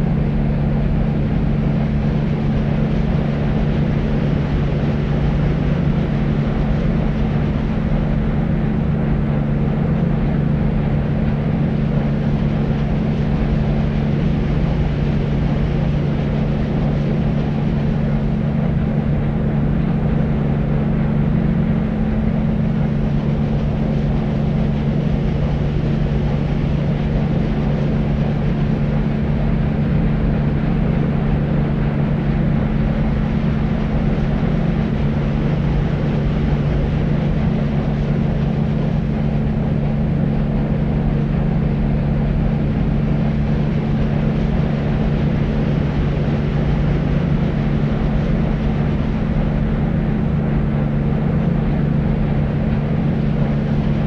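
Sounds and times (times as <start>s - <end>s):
deep white noise with hum: 0.0s - 54.0s.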